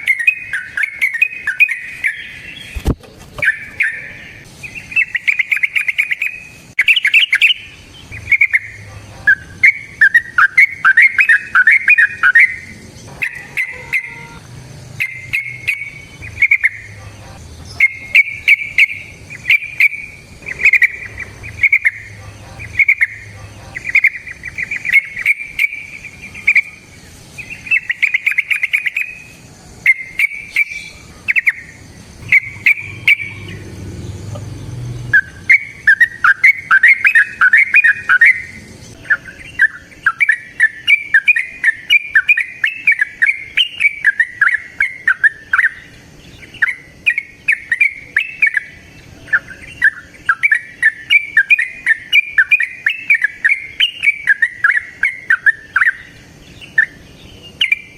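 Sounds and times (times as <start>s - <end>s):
bulbul warbling song: 0.0s - 57.9s.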